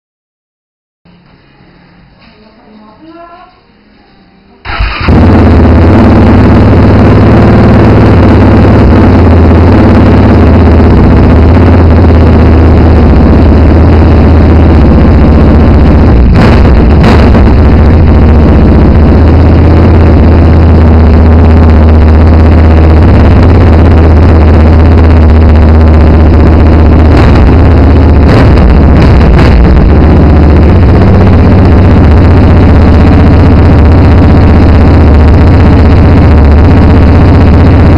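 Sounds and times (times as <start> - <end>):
quad bike engine idling: 4.7 - 37.9
sharp engine revving bursts: 4.7 - 37.9.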